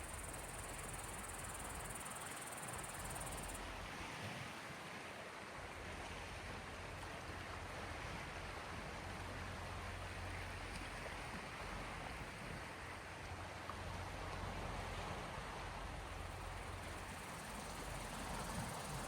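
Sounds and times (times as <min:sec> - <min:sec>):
gentle sea waves washing: 0:00.0 - 0:19.0.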